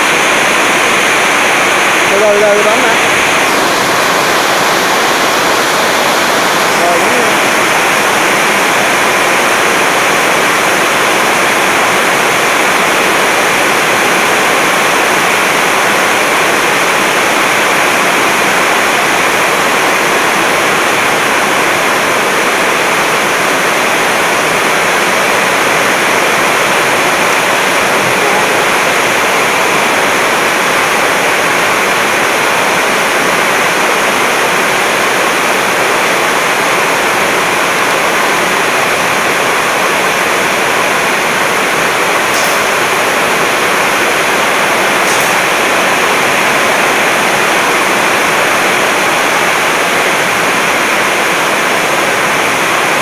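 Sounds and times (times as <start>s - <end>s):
steady rushing hiss: 0.0s - 53.0s.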